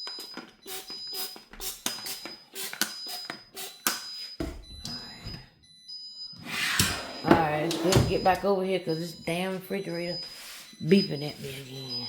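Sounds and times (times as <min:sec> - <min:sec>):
high-pitched alarm beeping: 0:00.0 - 0:12.0.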